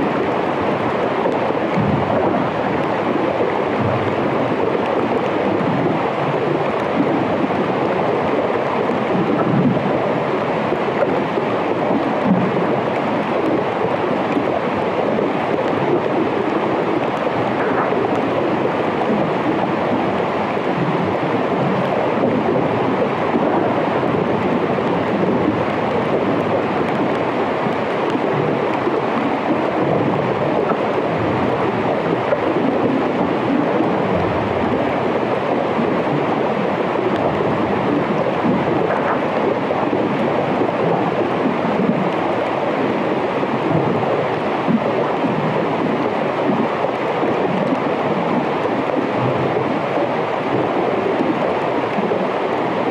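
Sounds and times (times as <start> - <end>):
underwater melting ice crackle: 0.1 - 52.6.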